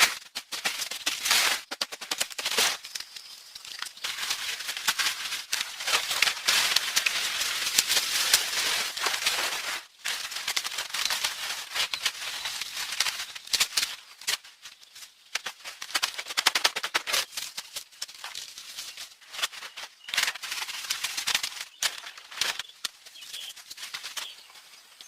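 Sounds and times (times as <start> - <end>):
dense crackling and rustling: 0.0 - 25.0.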